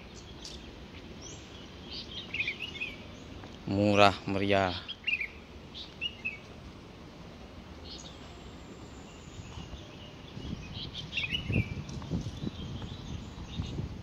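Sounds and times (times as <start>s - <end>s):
birds chirping: 0.0s - 14.0s
steady background hiss: 0.0s - 14.0s.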